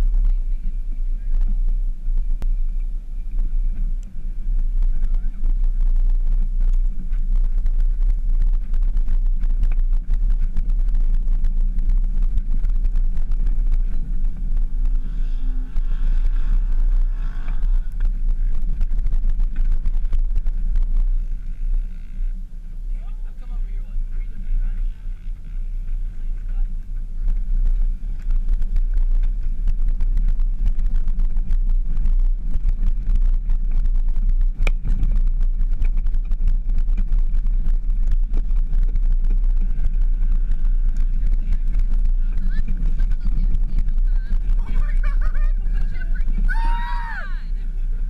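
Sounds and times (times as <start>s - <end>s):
engine and tyres rumbling: 0.0s - 48.0s
wind buffeting microphone: 0.0s - 48.0s.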